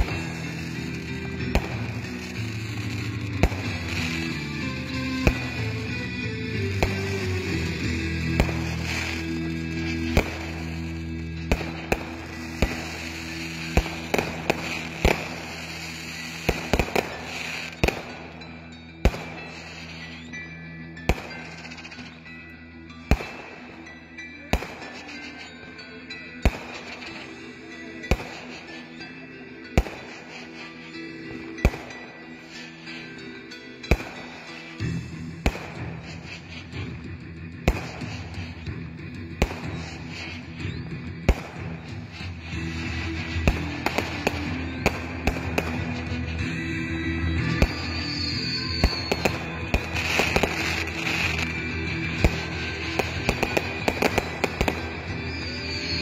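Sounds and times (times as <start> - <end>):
fireworks bangs: 0.0 - 20.2, 21.0 - 22.2, 26.4 - 33.0, 33.8 - 36.9, 37.6 - 56.0
fireworks crackling: 0.0 - 56.0
music playing: 0.0 - 56.0.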